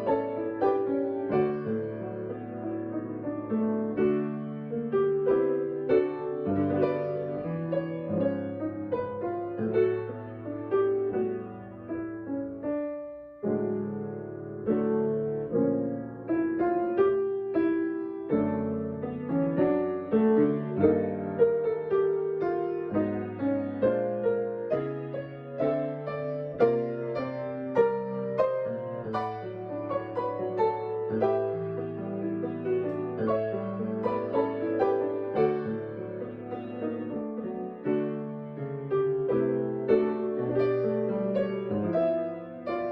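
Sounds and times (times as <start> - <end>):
slow gentle piano piece: 0.0 - 42.9.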